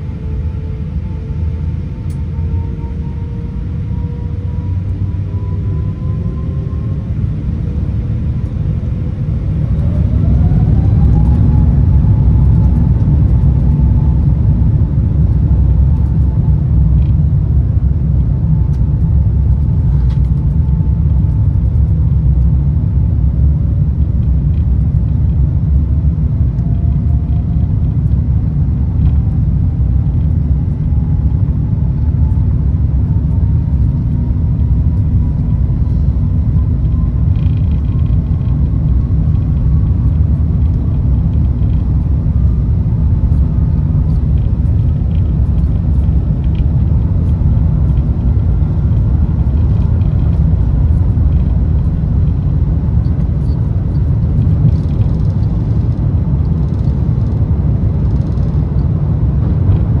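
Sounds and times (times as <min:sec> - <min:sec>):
jet engine rumble in cabin: 0:00.0 - 1:00.0
jet engine whine: 0:00.0 - 1:00.0.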